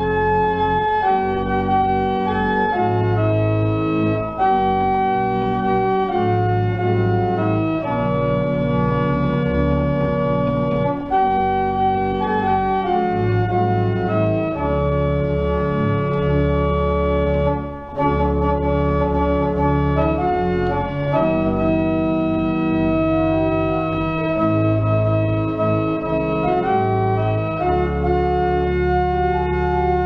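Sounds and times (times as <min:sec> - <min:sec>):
pipe organ chords: 0:00.0 - 0:30.0.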